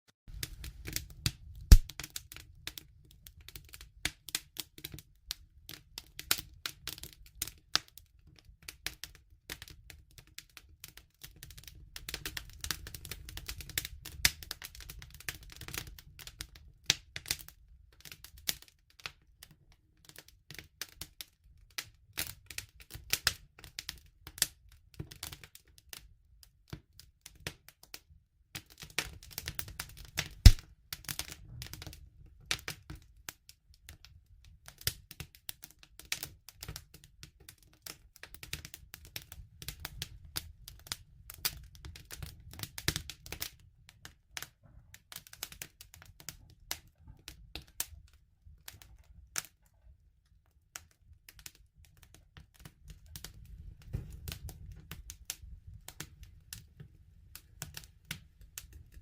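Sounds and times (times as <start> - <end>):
wood fire crackling: 0.3 - 26.1, 28.5 - 49.7, 50.4 - 59.0.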